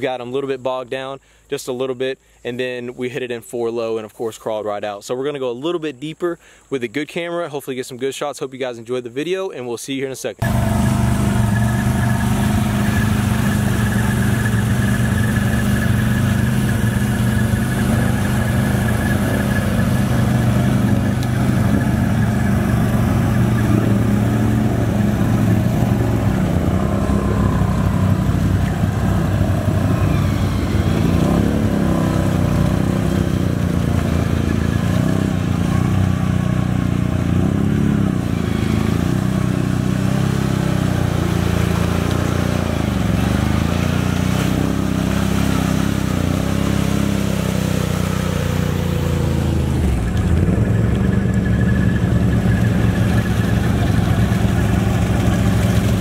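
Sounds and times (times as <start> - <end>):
atv engines revving: 10.4 - 56.0.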